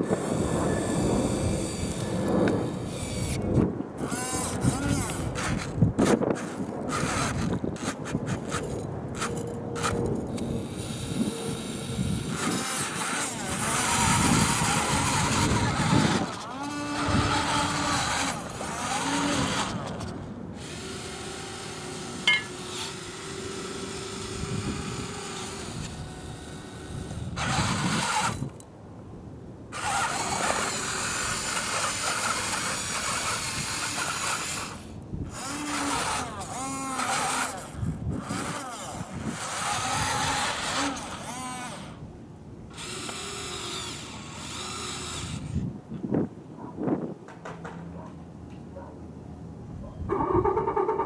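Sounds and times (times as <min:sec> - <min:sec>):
toy electric motors whining: 0:00.0 - 0:28.6, 0:29.7 - 0:42.1, 0:42.7 - 0:45.7.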